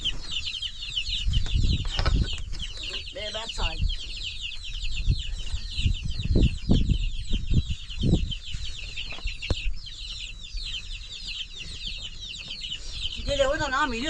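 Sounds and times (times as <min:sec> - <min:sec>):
chickens peeping and clucking: 0:00.0 - 0:14.0.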